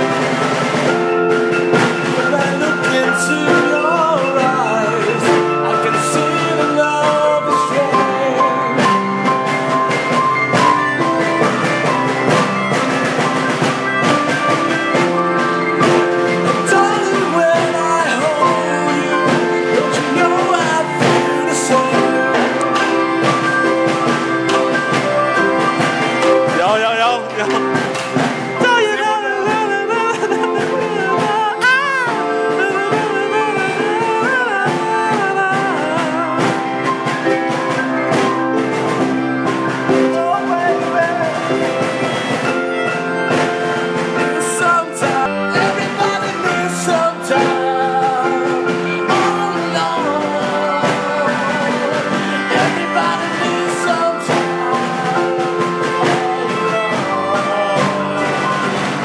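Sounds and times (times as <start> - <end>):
rock song with singing: 0.0 - 59.0.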